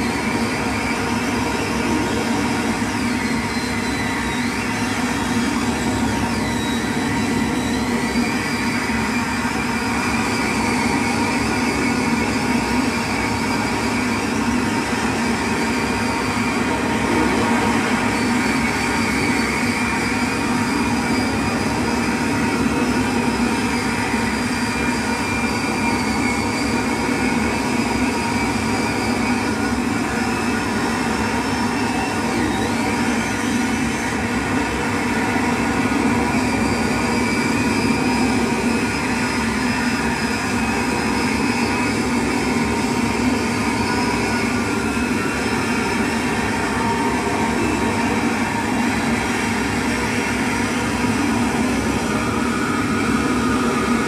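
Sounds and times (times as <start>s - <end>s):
electronic noise drone: 0.0s - 54.0s.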